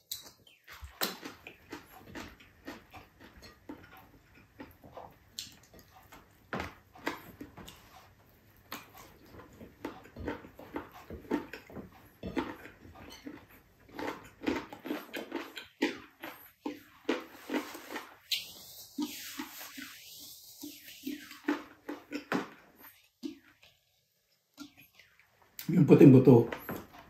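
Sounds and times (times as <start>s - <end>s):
person chewing and lip-smacking: 0.0s - 27.0s.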